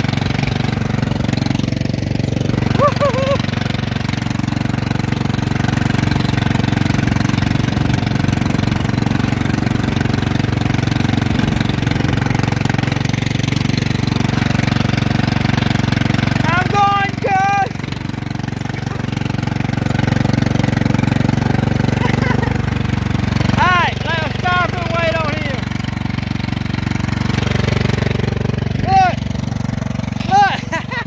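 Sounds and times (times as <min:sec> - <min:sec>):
riding mower engine running: 0:00.0 - 0:31.0.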